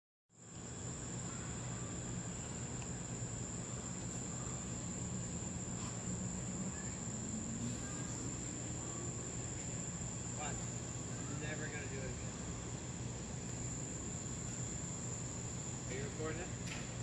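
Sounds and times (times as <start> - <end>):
low steady hum: 0.4 - 17.0
night insects chirring: 0.4 - 17.0.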